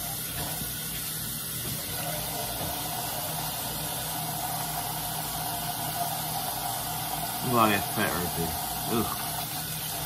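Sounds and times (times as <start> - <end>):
faucet running into sink: 0.0 - 10.0.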